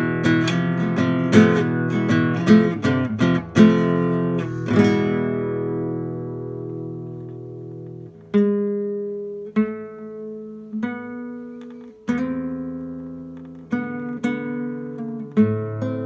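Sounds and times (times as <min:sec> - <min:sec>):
classical guitar chords plucked: 0:00.0 - 0:16.0.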